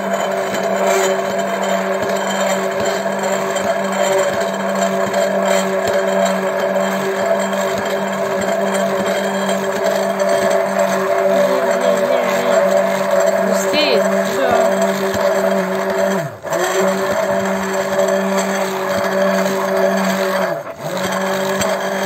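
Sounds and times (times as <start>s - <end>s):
immersion blender running in glass jar: 0.0s - 22.0s.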